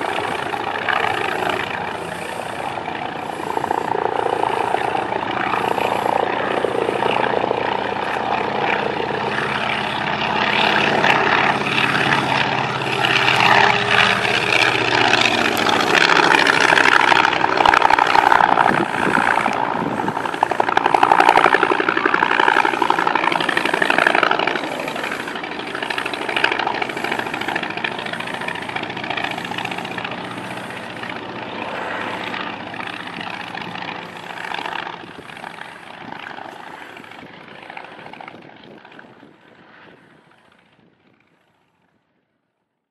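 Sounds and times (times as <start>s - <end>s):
propeller plane engine passing: 0.0s - 42.1s.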